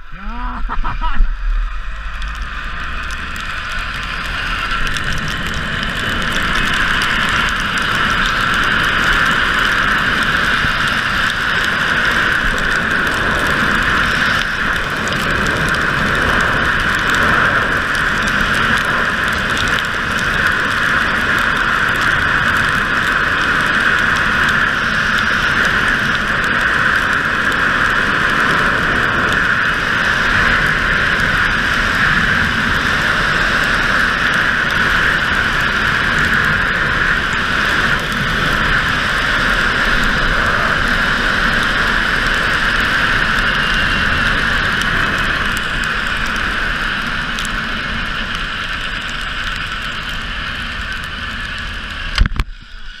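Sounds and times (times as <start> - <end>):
rushing wind: 0.0 - 53.0.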